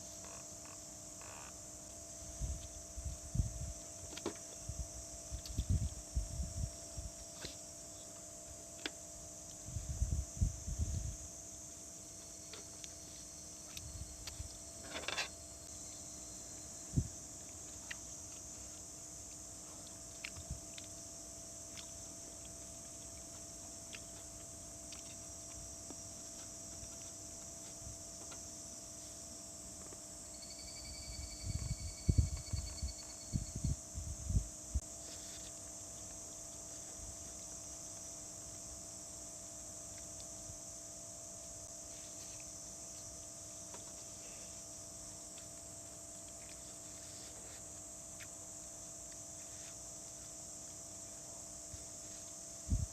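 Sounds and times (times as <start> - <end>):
night insects buzzing: 0.0 - 52.9.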